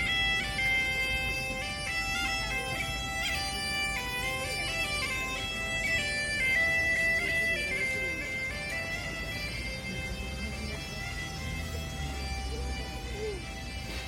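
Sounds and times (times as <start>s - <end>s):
bagpipe chanter melody: 0.0s - 14.0s
bagpipe drone: 0.0s - 14.0s.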